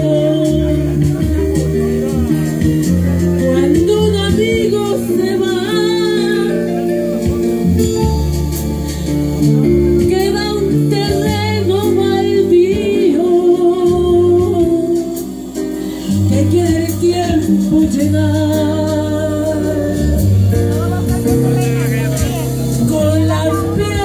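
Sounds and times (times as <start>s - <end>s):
backing music: 0.0s - 24.0s
voices singing a slow ballad: 0.0s - 24.0s.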